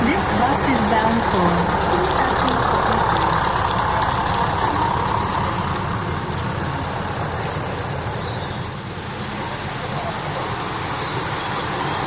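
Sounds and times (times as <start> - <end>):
bus engine hum from inside: 0.0 - 12.0.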